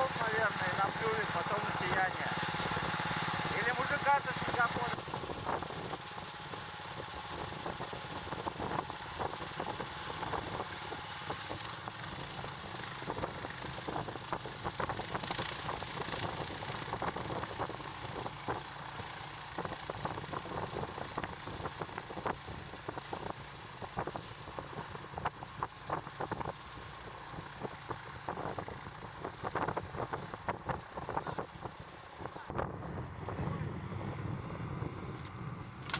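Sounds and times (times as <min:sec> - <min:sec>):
engine running: 0:00.0 - 0:35.9.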